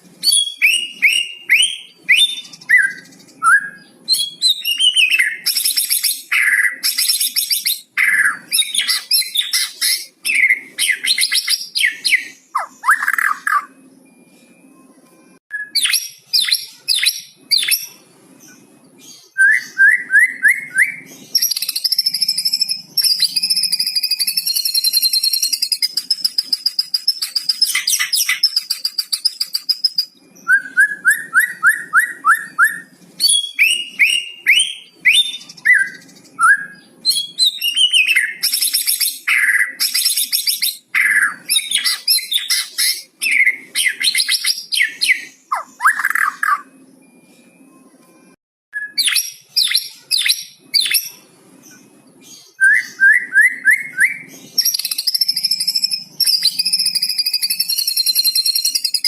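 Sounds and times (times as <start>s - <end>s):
bird singing varied song: 0.2s - 59.0s.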